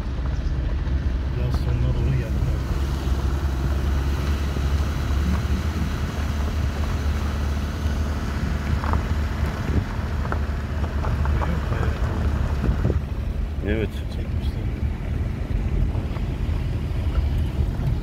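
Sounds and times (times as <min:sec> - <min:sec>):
engine and tyres rumbling: 0:00.0 - 0:18.0
wind buffeting microphone: 0:02.4 - 0:13.6, 0:14.3 - 0:18.0.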